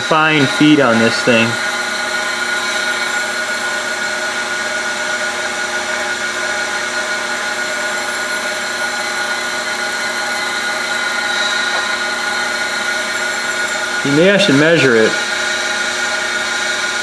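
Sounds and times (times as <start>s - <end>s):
grinder whining: 0.0s - 17.0s.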